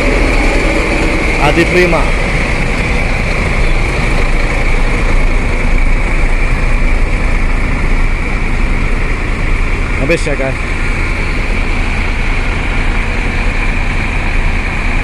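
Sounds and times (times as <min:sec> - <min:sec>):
diesel bus engines idling: 0:00.0 - 0:15.0.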